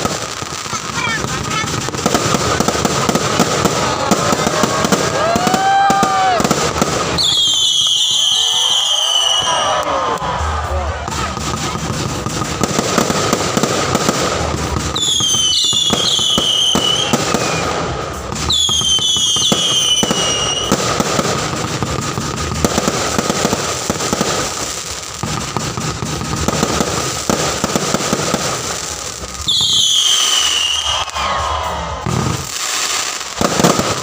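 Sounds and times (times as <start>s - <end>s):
fireworks crackling and popping: 0.0s - 34.0s
whistling fireworks falling in pitch: 0.0s - 34.0s.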